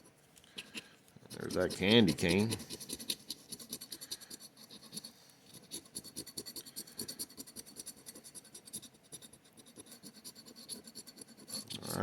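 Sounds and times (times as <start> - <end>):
scratching lottery ticket: 0.0 - 12.0.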